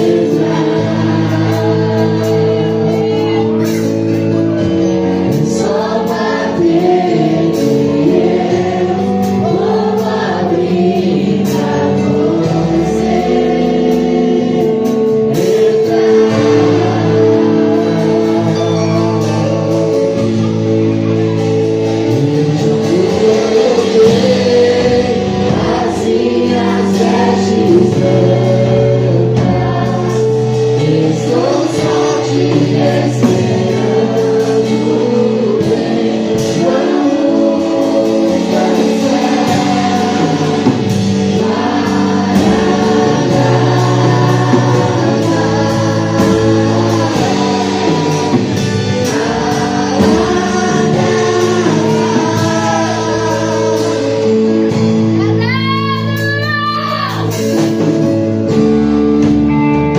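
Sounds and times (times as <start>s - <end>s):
group of voices singing: 0.0s - 58.6s
band playing sustained chords: 0.0s - 59.9s.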